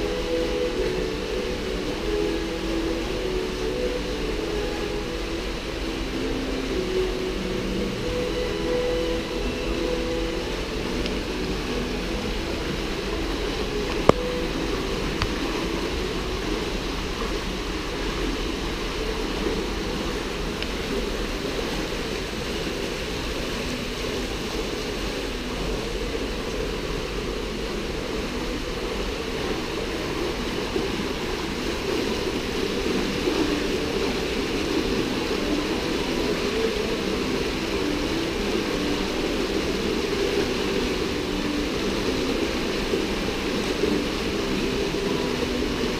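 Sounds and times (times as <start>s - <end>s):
running water rushing: 0.0s - 45.9s.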